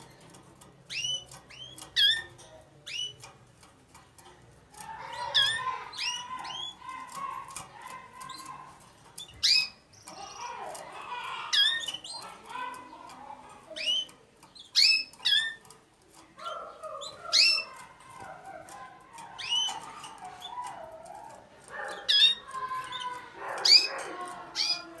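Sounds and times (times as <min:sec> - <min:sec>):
canary chirps: 0:00.0 - 0:25.0.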